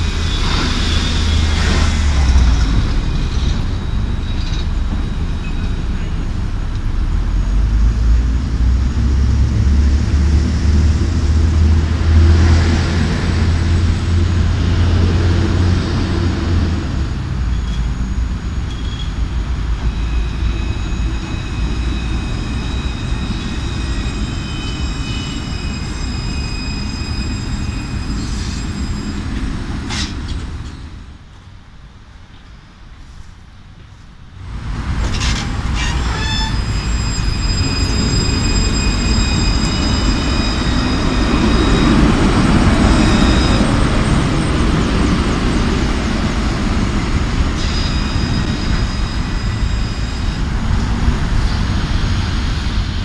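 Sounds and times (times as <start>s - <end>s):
tram high-pitched whines: 0.0s - 53.0s
tram low rumble: 0.0s - 53.0s.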